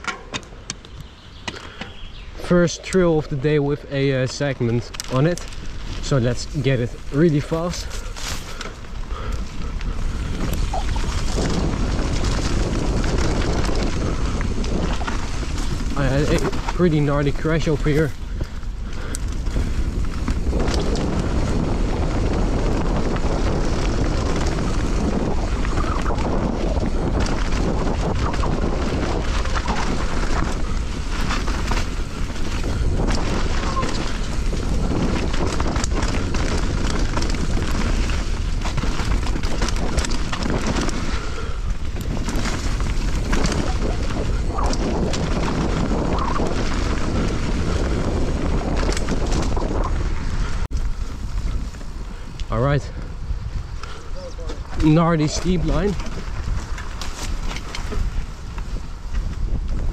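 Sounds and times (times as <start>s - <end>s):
bike rattling over rough ground: 0.0s - 59.9s
wind buffeting microphone: 0.0s - 59.9s.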